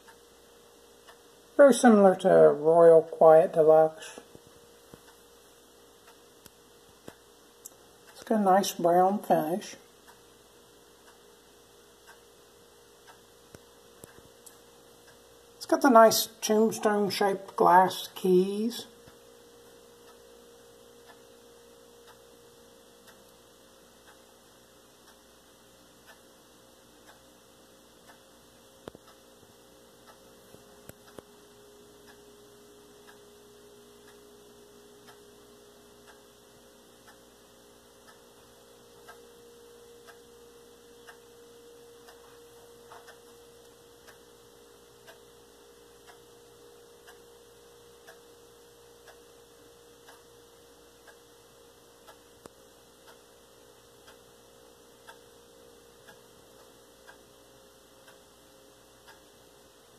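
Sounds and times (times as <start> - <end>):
faint regular ticking: 0.0 - 59.9
steady low hum: 0.0 - 59.9.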